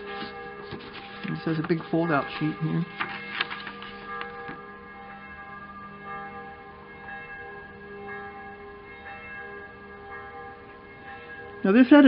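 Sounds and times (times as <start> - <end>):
bells ringing: 0.0 - 12.0.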